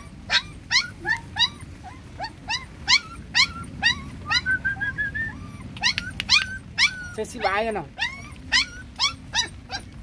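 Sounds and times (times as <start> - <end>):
puppy whining and yelping: 0.0 - 10.0.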